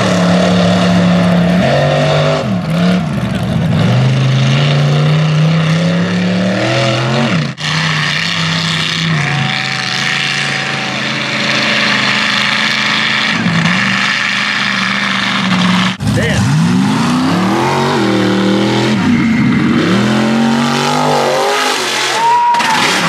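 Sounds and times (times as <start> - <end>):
truck engine running hard: 0.0 - 23.0.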